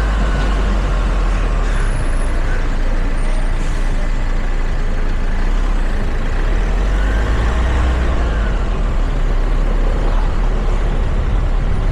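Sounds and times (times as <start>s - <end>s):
wind and road noise rumble: 0.0s - 11.9s.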